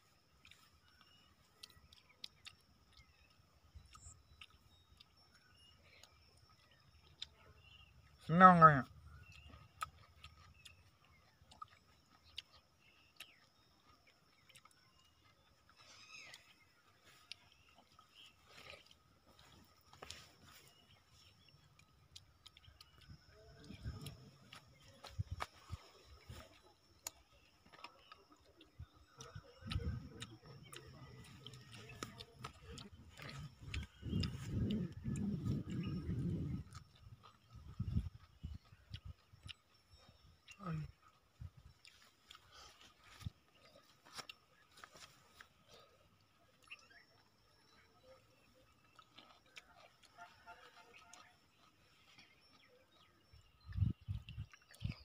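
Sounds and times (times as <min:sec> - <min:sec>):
faint chewing clicks: 0:00.0 - 0:55.0.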